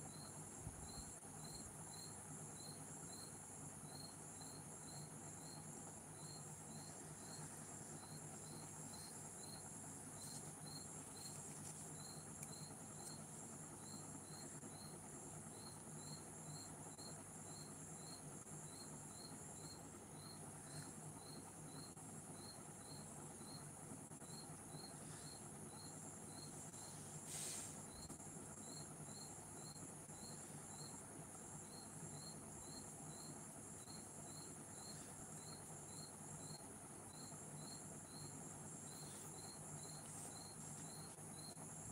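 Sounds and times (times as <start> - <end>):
faint crickets chirping: 0.0 - 41.9
high insect drone: 0.0 - 41.9
low steady hum: 0.0 - 41.9.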